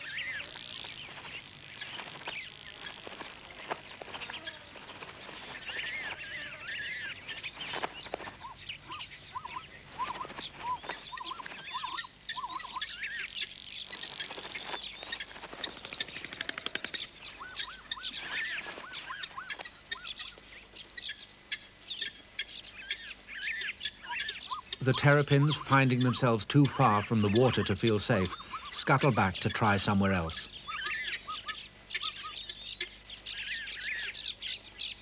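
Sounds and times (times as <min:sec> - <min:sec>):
birds chirping and calling: 0:00.0 - 0:35.0.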